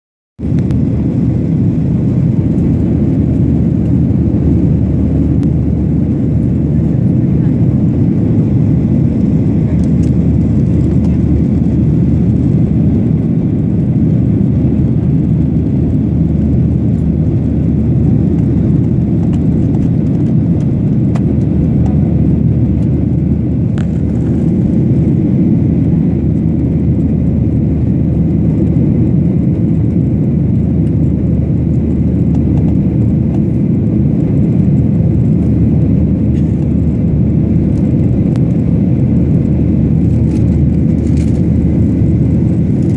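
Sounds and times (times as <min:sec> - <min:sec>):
jet airliner cabin drone: 0:00.4 - 0:42.9.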